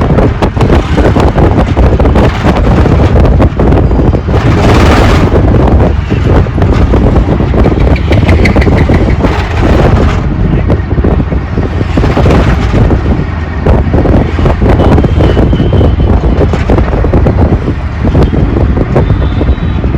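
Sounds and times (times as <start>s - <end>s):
auto rickshaw engine running: 0.0s - 19.9s
road noise: 0.0s - 19.9s
wind buffeting on microphone: 0.0s - 19.9s.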